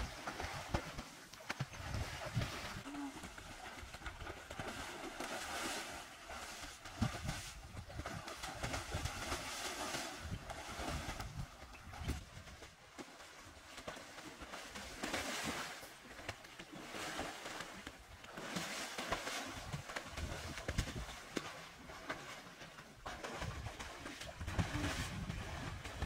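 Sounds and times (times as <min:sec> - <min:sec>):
water splashing in pool: 0:00.0 - 0:26.0.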